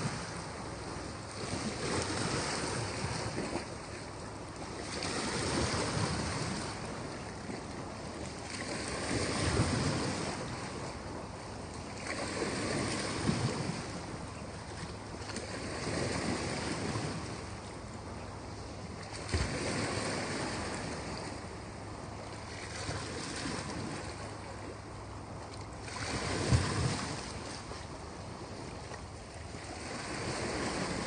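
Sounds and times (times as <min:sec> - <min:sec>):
waves washing in: 0:00.0 - 0:31.0.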